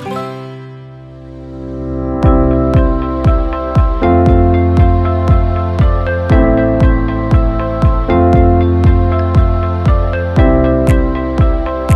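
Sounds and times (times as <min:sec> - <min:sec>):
sustained chords: 0:00.0 - 0:11.9
steady beat: 0:02.1 - 0:11.9.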